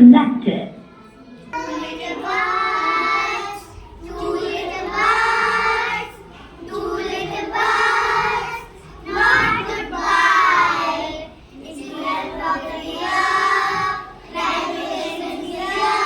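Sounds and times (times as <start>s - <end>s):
children singing: 1.5s - 16.0s.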